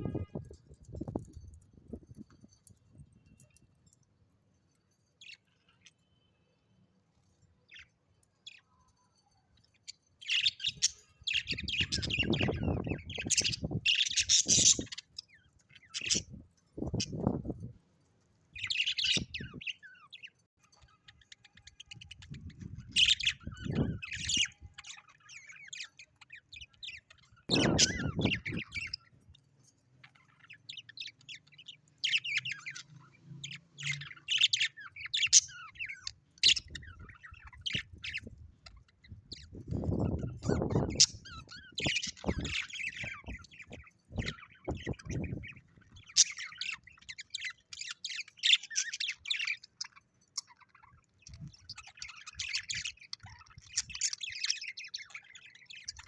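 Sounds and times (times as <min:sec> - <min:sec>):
small birds chirping and squawking: 0:00.0 - 0:56.0.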